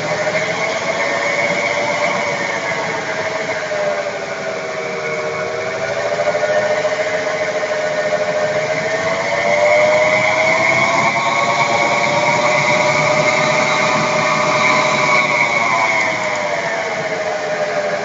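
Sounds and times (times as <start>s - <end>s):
steady higher whine: 0.0s - 18.0s
wheel bearing humming: 0.0s - 18.0s.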